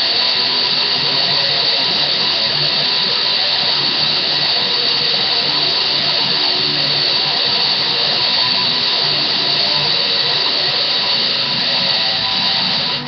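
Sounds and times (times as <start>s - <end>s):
distorted electric guitar riff: 0.0s - 13.0s
steady hiss: 0.0s - 13.0s.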